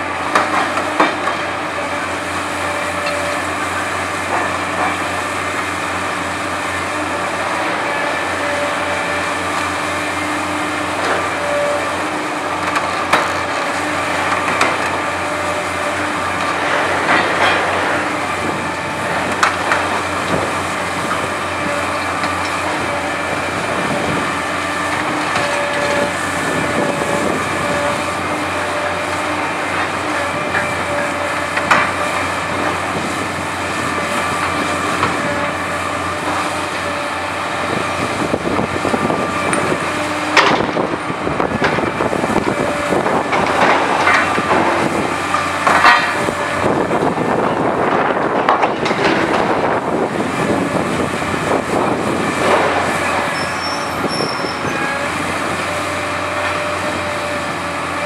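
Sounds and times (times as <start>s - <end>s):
excavator engine droning: 0.0s - 58.0s.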